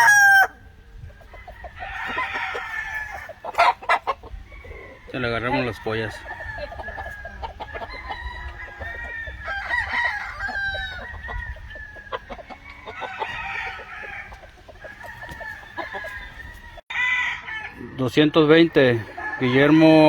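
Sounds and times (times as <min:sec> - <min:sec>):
chickens clucking: 0:00.0 - 0:20.0
roosters crowing: 0:00.0 - 0:20.0.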